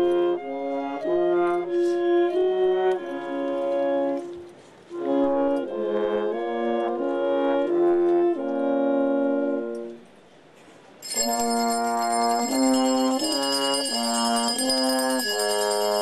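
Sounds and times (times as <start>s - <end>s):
brass and woodwind band chords: 0.0s - 10.1s, 11.1s - 16.0s.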